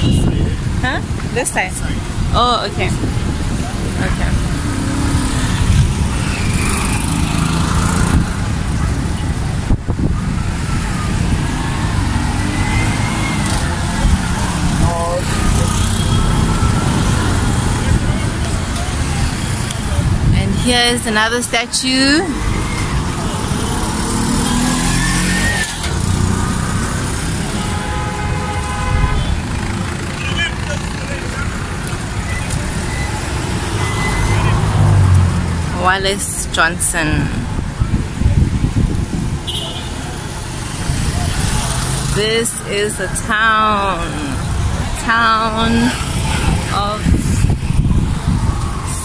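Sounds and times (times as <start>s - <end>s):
auto-rickshaw engine: 0.0s - 49.0s
road noise rumble: 0.0s - 49.0s
vehicle engines passing: 0.0s - 49.0s.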